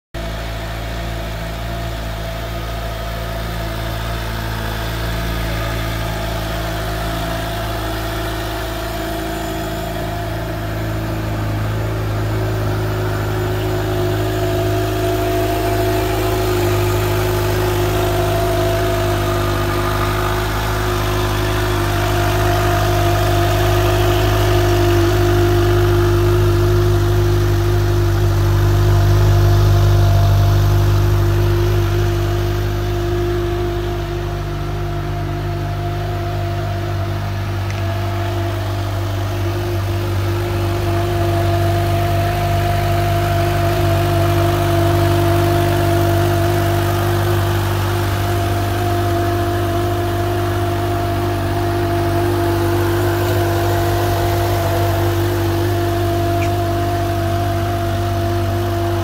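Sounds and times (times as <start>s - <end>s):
motorcycle engine idling: 0.1s - 59.0s.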